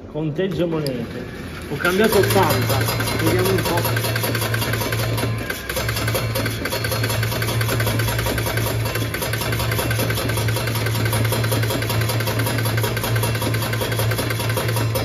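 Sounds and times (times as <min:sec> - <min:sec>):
coin machine motor humming: 0:00.6 - 0:15.0.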